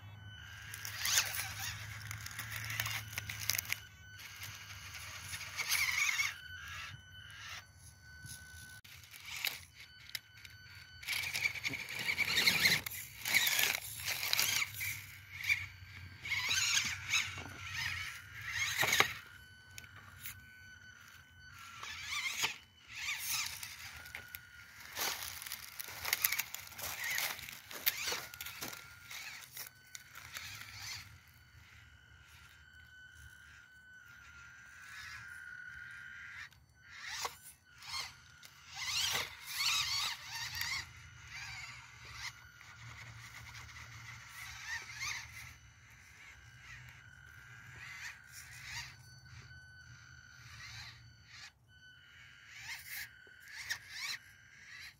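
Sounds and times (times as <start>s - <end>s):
high electric motor whine: 0.0s - 54.9s
tyres scraping on bark and leaves: 0.4s - 7.6s, 8.2s - 32.5s, 34.2s - 48.9s, 52.1s - 54.9s.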